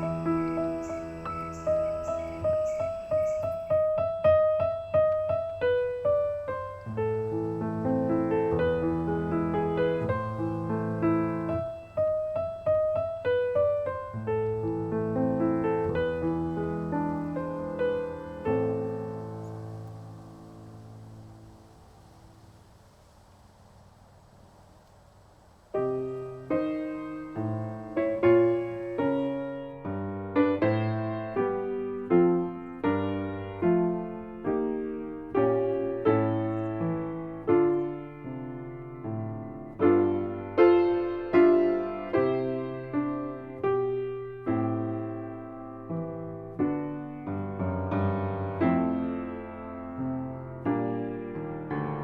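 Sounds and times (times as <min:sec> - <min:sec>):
gentle piano music: 0:00.0 - 0:22.9, 0:25.6 - 0:52.0.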